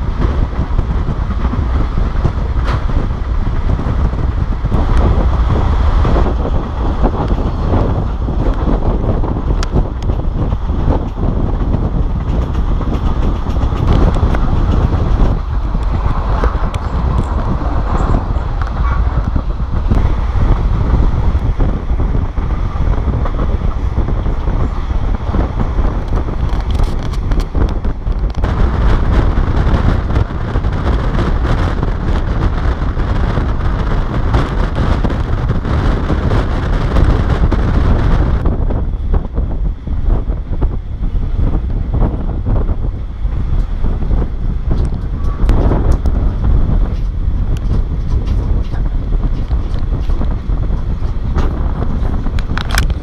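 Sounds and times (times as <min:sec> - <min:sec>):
train rumbling on rails: 0:00.0 - 0:53.0
wind rushing over microphone: 0:00.0 - 0:53.0.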